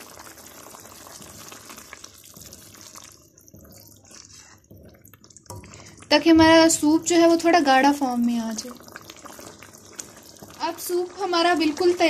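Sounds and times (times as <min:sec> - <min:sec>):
soup bubbling in a pan: 0:00.0 - 0:12.0
spoon stirring liquid: 0:00.0 - 0:12.0.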